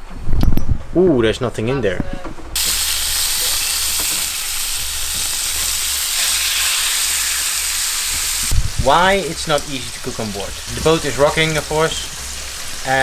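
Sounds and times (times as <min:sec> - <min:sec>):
food sizzling in a frying pan: 0:02.6 - 0:13.0.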